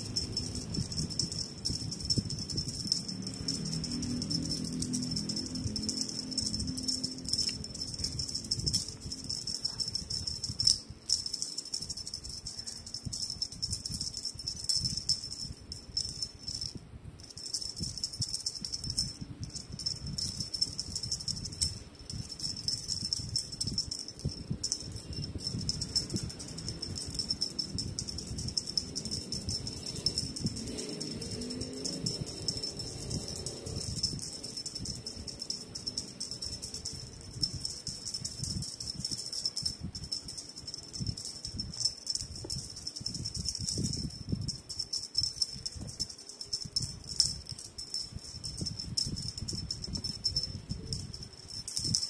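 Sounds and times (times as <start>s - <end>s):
cat toy rattling and rustling: 0.0s - 52.0s.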